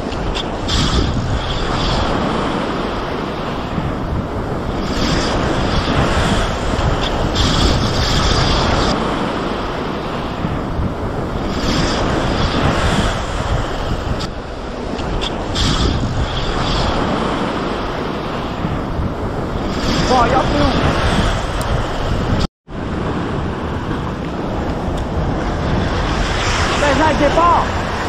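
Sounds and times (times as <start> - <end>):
surf breaking on shore: 0.0 - 28.0
wind buffeting microphone: 0.0 - 28.0.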